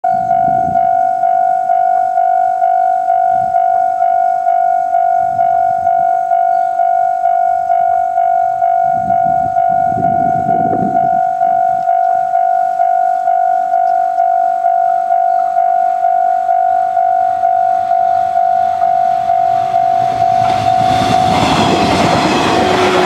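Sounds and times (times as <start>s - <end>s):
level-crossing warning bell: 0.0s - 23.0s.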